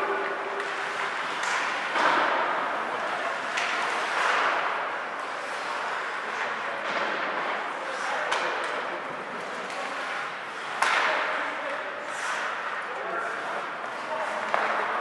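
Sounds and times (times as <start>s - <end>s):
hissing skate scrape: 0.0s - 8.4s, 9.3s - 14.6s
skates and sticks on ice: 0.0s - 15.0s.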